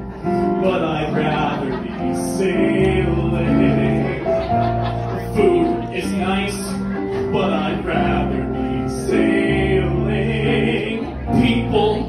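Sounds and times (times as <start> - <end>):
piano accompaniment: 0.0 - 12.0
man singing: 0.4 - 4.5, 5.2 - 12.0.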